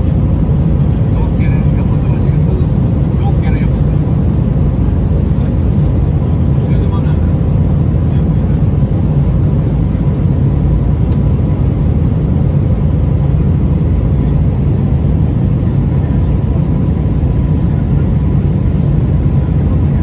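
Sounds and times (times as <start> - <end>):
airliner cabin engine roar: 0.0 - 20.0.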